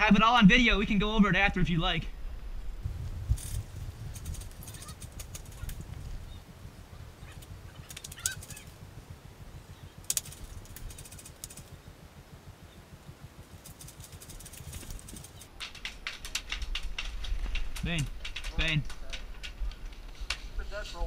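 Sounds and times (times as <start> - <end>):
wind rumble: 0.0 - 21.0.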